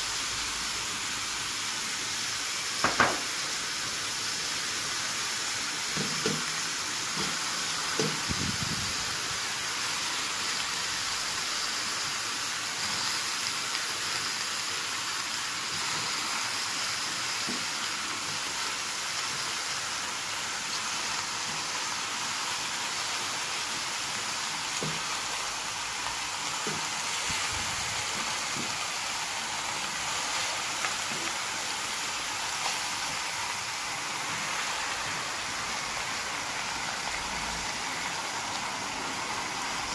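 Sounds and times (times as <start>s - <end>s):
meat sizzling in a pot: 0.0s - 39.9s.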